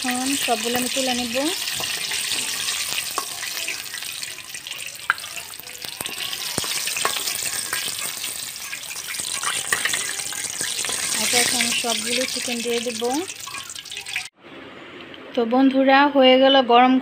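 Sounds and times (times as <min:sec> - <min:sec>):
chicken sizzling in hot oil: 0:00.0 - 0:14.3.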